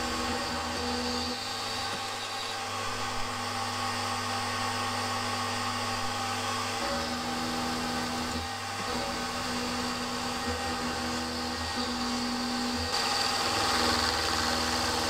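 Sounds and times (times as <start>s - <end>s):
end mill cutting metal: 0.0s - 15.0s
milling machine motor whine: 0.0s - 15.0s.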